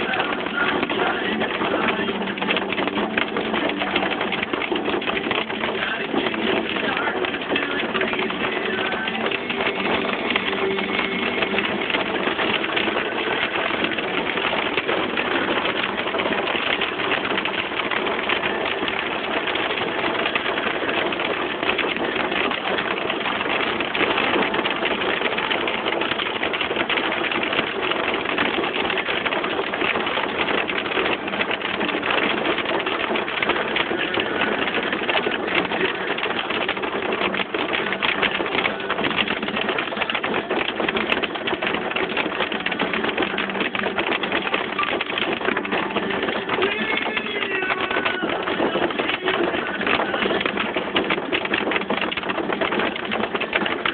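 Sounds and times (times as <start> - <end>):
hail pelting car roof: 0.0 - 53.9.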